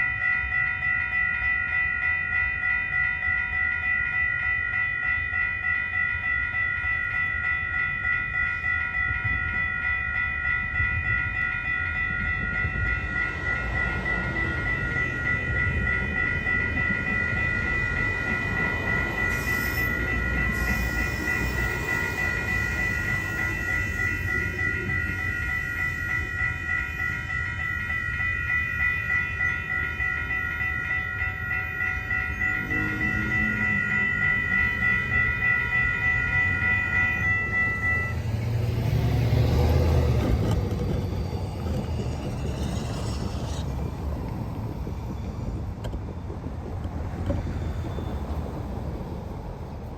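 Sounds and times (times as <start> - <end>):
railroad crossing bell ringing: 0.0 - 49.9
train rumbling past: 0.0 - 49.9.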